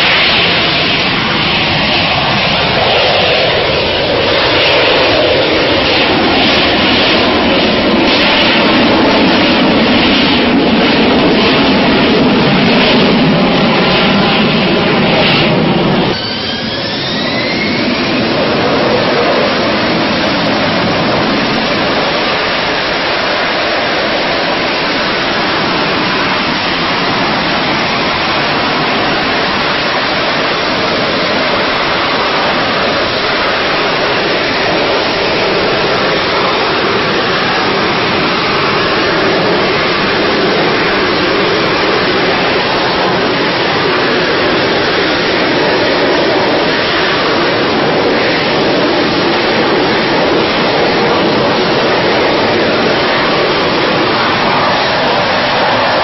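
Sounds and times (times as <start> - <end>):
jet engine rushing: 0.0 - 56.0
rising whine: 0.0 - 56.0.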